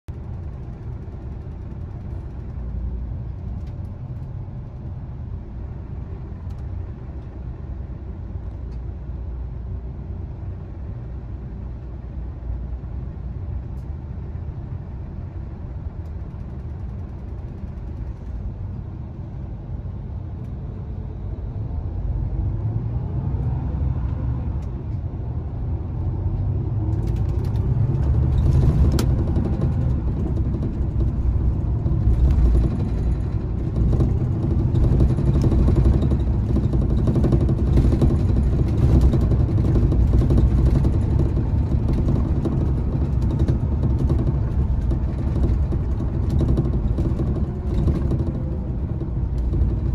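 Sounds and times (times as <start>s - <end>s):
bus diesel engine rumble: 0.0s - 49.9s
road noise: 0.1s - 49.9s.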